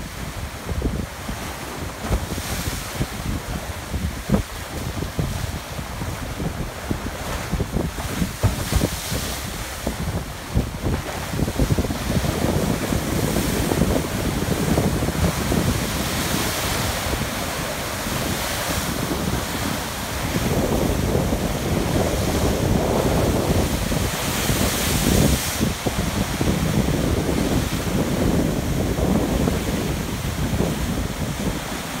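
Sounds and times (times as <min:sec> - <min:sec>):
surf crashing on rock: 0:00.0 - 0:32.0
wind buffeting microphone: 0:00.0 - 0:32.0.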